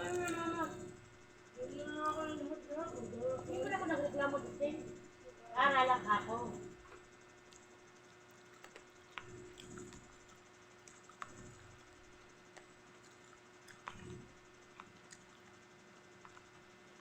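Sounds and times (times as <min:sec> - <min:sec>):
quiet chewing: 0:00.0 - 0:05.4, 0:06.2 - 0:17.0.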